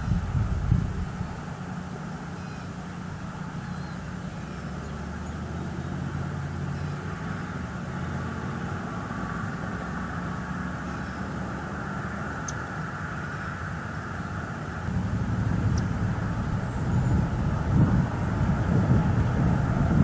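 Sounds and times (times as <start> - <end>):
distant engine drone: 0.0 - 20.0
outdoor background hiss: 0.0 - 20.0.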